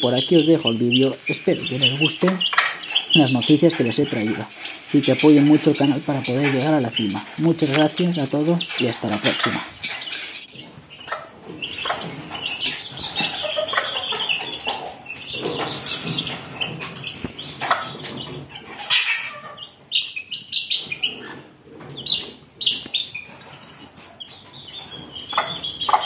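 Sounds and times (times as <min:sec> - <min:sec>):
chicks peeping: 0:00.0 - 0:26.0
hen clucking: 0:00.0 - 0:26.0.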